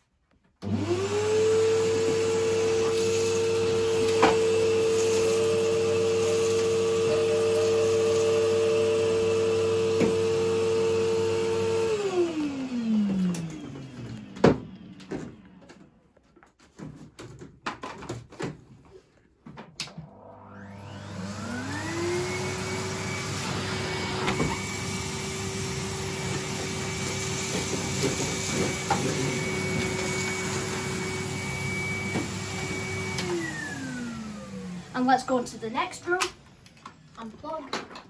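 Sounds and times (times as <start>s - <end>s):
vacuum cleaner motor whining: 0.6s - 16.0s, 19.8s - 36.2s.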